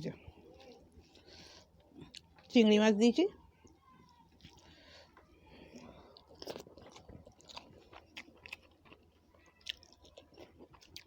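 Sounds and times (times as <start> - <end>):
person chewing and smacking: 0.3 - 2.5, 3.6 - 11.0.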